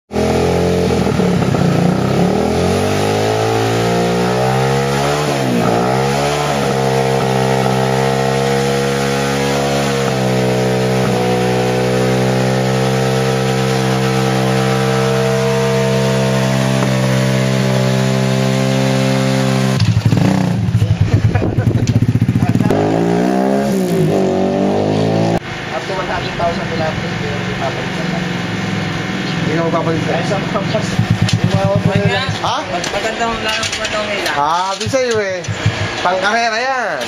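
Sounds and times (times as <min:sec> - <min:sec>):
motorcycle engine running: 0:00.1 - 0:36.2.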